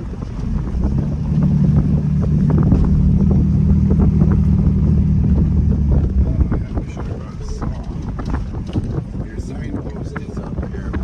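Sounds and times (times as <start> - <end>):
rattles and knocks: 0.0 - 11.0
vehicle engine droning: 0.0 - 11.0.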